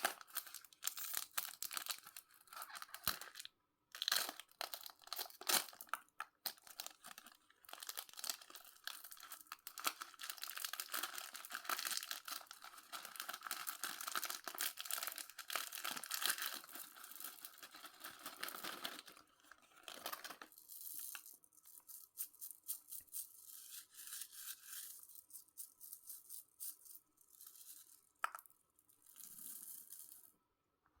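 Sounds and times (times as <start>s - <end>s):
candy wrappers crinkling: 0.0s - 28.4s.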